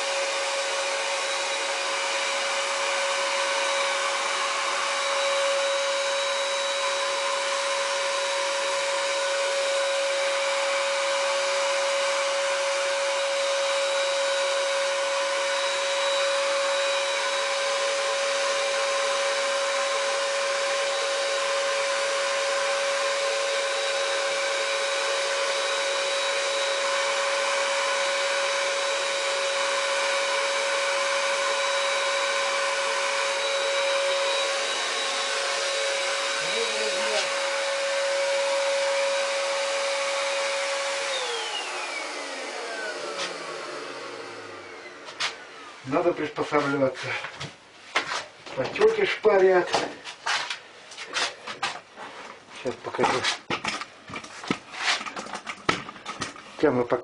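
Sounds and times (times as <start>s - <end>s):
paint sprayer blower whining: 0.0s - 47.5s, 48.5s - 57.0s.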